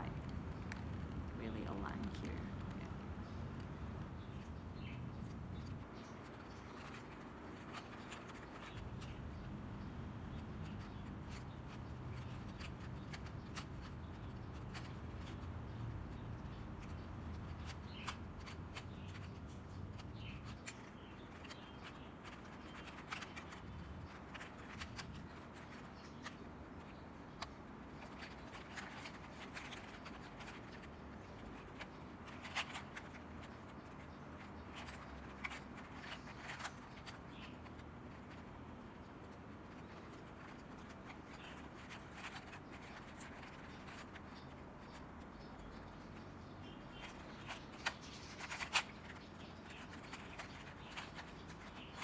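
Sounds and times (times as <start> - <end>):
low background hum: 0.0 - 52.0
puzzle cube clicking and rasping: 2.0 - 46.0.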